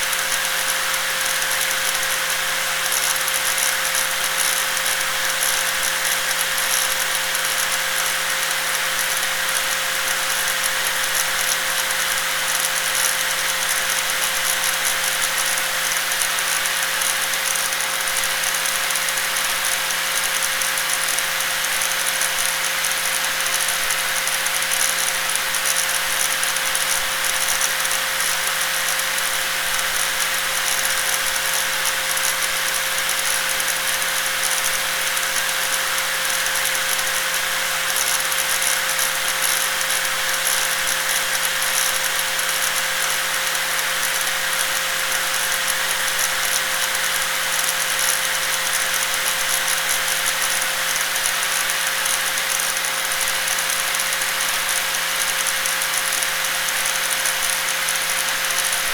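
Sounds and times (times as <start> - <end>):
angle grinder running: 8.2 - 58.9.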